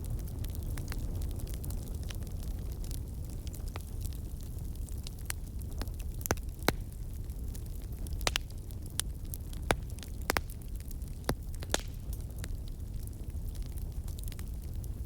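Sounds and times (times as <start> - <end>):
campfire rumble: 0.0 - 15.0
wood crackling and popping: 0.0 - 15.0.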